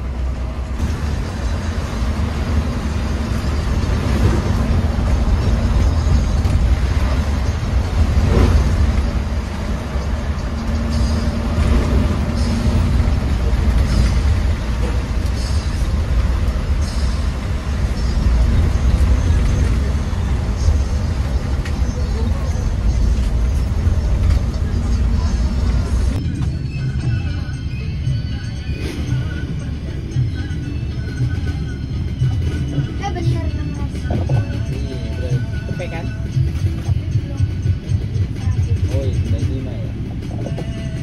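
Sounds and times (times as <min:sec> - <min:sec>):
bus engine and tyres rumbling: 0:00.0 - 0:41.0.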